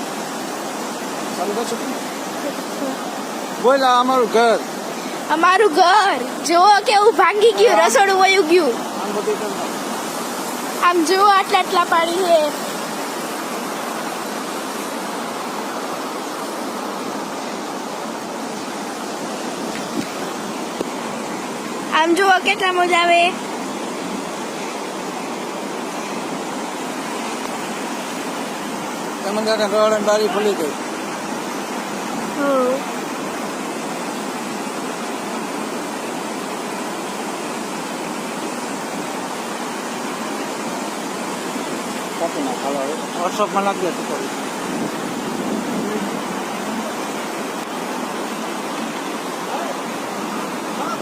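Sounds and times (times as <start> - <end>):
heavy rain and floodwater rushing: 0.0 - 51.0.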